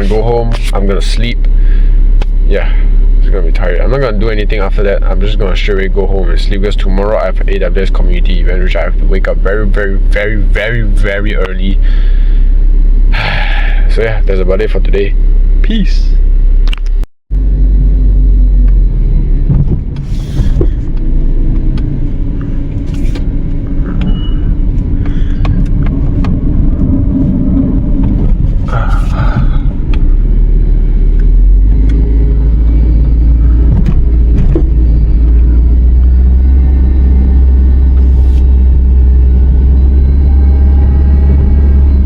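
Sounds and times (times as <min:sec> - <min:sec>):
vehicle low rumble: 0:00.0 - 0:42.0.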